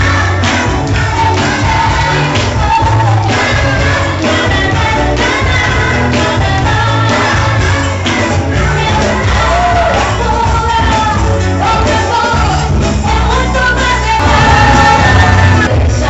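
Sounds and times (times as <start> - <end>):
music with singing and bass: 0.0 - 16.0.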